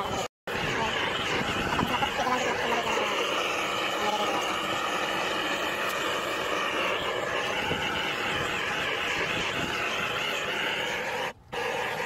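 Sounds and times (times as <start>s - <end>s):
gas torch burning: 0.0s - 12.0s.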